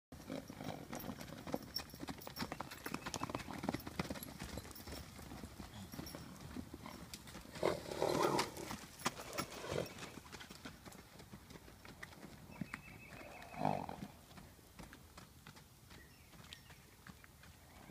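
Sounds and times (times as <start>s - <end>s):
horse hooves galloping on dirt: 0.1s - 17.9s.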